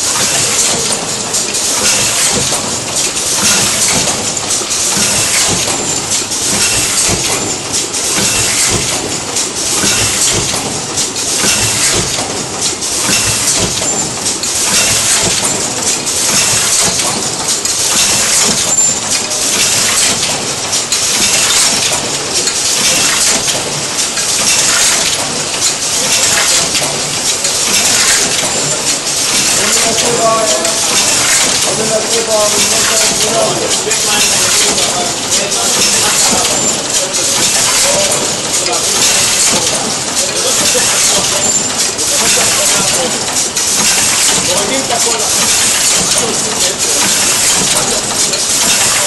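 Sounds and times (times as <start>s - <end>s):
packaging machine hissing clatter: 0.0s - 49.0s.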